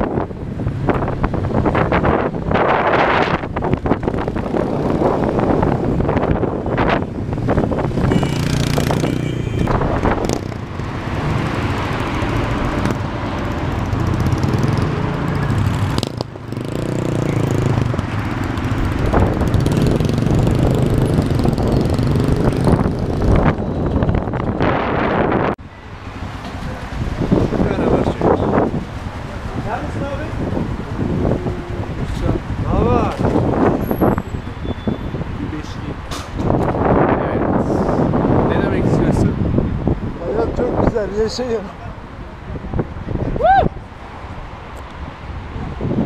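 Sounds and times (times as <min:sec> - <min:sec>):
wind rushing over microphone: 0:00.0 - 0:25.6, 0:26.2 - 0:46.0
motorcycle engines revving: 0:00.8 - 0:25.3, 0:26.5 - 0:42.1.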